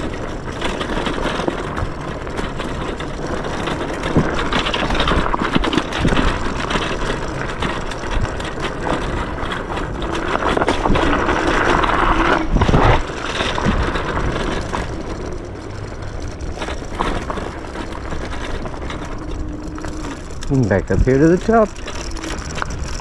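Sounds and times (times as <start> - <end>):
electric scooter rushing noise: 0.0 - 23.0
knocks and rattles over ground: 0.0 - 23.0.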